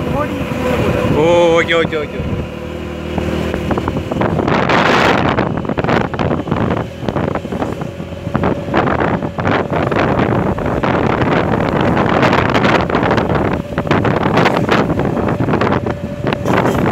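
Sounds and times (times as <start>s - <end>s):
motorcycle engine running: 0.0s - 16.9s
wind buffeting the microphone: 0.0s - 16.9s.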